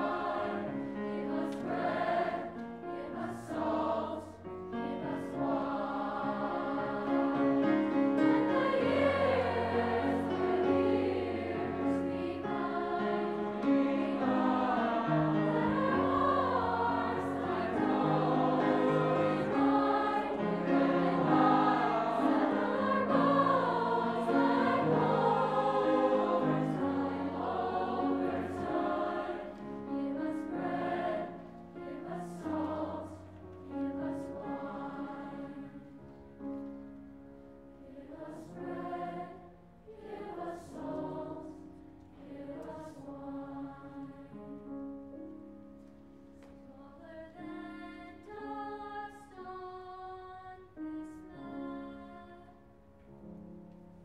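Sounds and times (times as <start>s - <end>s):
children's choir singing: 0.0s - 36.0s, 37.8s - 44.5s, 46.7s - 52.6s
grand piano accompaniment: 0.0s - 54.0s.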